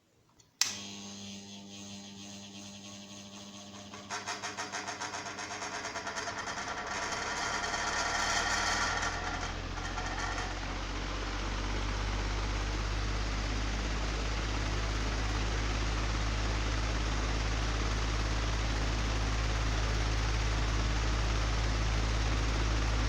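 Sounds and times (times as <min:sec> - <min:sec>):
fan motor low hum: 0:00.6 - 0:23.0.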